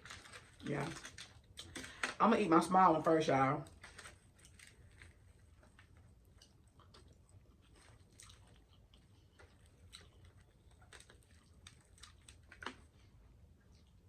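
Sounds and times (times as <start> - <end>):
chewing crunches: 0.0 - 2.2, 3.6 - 14.0.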